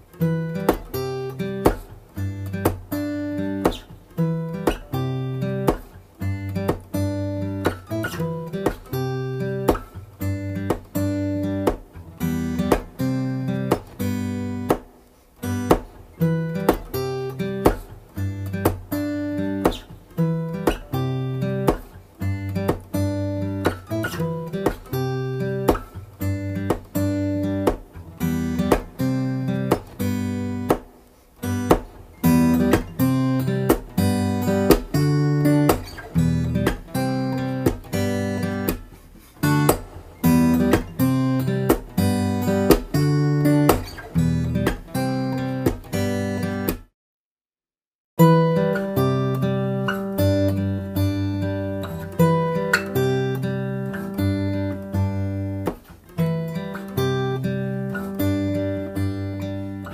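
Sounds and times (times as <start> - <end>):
acoustic guitar strumming chords: 0.0 - 46.9, 48.2 - 59.9.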